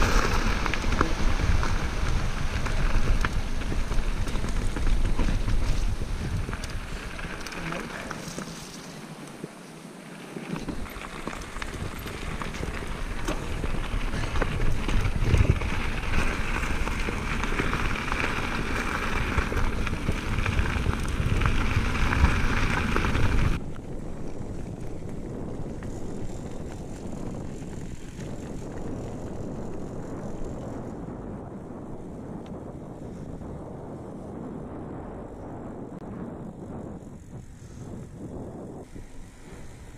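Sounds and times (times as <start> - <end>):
wind buffeting microphone: 0.0 - 9.6, 10.4 - 39.9
bike tyres crunching over gravel: 0.0 - 39.9.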